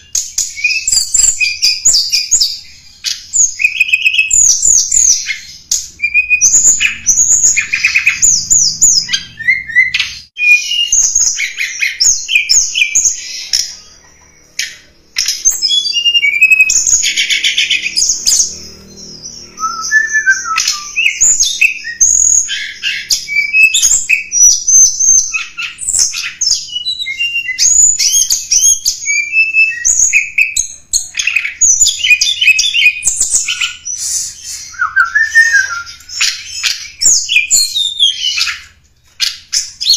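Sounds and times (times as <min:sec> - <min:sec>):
bird high-pitched chirps and trills: 0:00.0 - 0:39.9.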